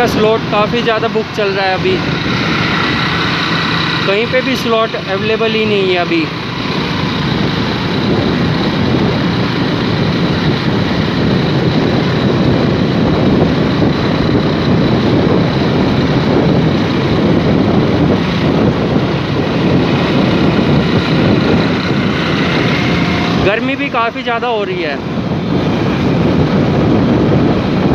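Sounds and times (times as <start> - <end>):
vehicle road and engine noise: 0.0 - 27.9
wind over microphone: 0.0 - 27.9.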